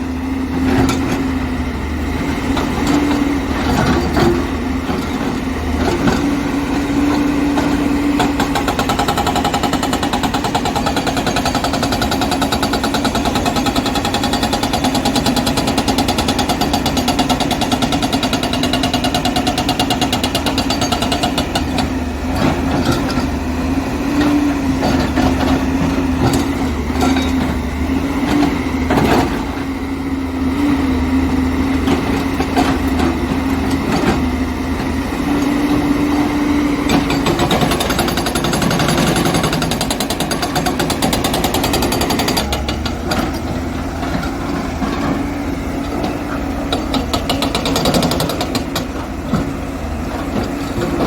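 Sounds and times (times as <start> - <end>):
diesel engine running: 0.0 - 51.0
hydraulic rock breaker hammering: 0.5 - 29.8, 30.5 - 51.0.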